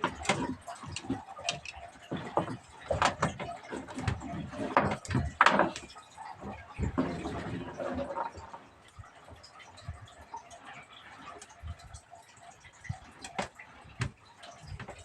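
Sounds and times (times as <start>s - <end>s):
irregular knocks and clatters: 0.0s - 15.0s.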